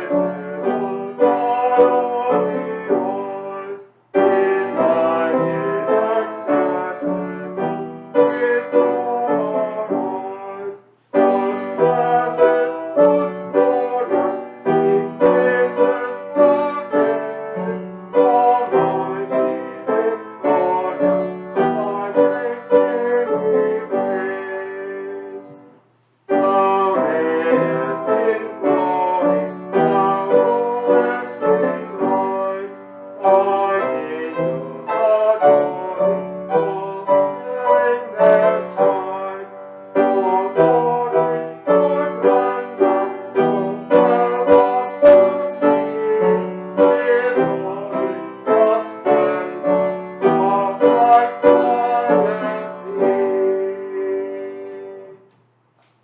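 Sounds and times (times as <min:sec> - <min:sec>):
piano playing hymn chords: 0:00.0 - 0:55.3.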